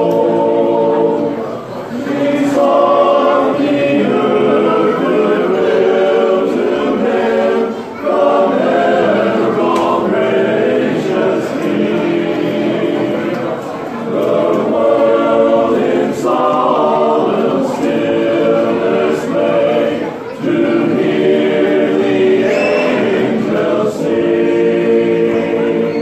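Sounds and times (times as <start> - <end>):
men's chorus singing a cappella: 0.0 - 26.0.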